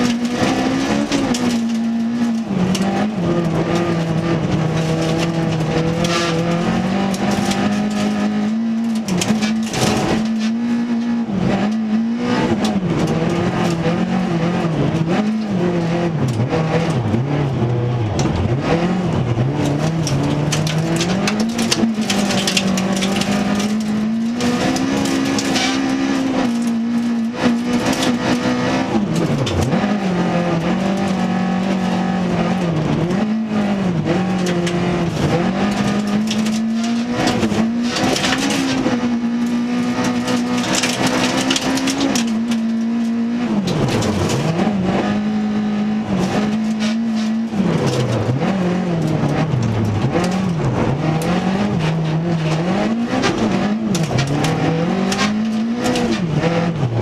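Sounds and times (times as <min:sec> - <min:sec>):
gravel striking car: 0:00.0 - 0:57.0
rally car engine revving: 0:00.0 - 0:57.0.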